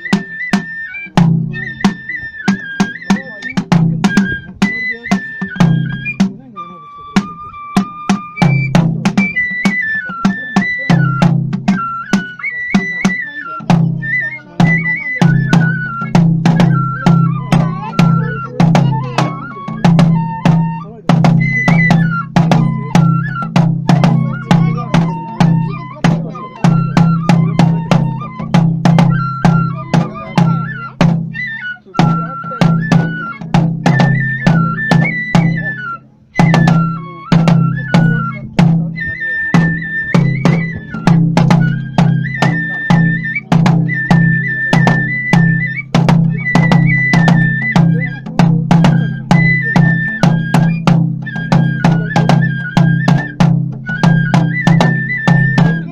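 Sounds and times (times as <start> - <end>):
high flute melody: 0.0 - 55.9
taiko drum rhythm: 0.0 - 55.9.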